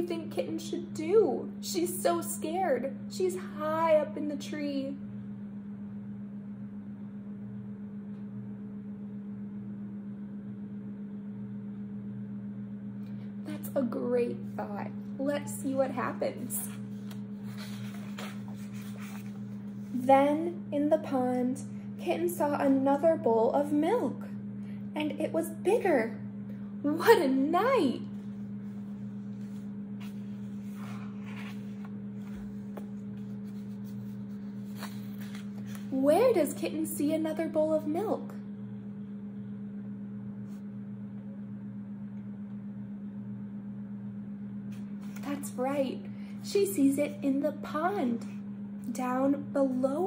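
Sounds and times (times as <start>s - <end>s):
low electrical hum: 0.0s - 50.0s.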